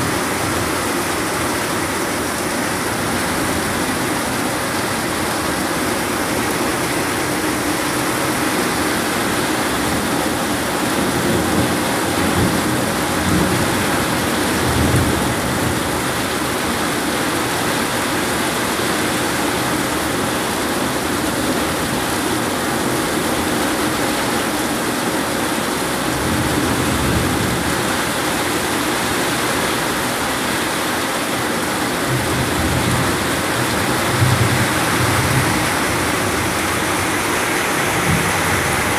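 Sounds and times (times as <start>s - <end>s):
heavy rain hiss: 0.0s - 38.9s
water streaming off roof: 0.0s - 38.9s.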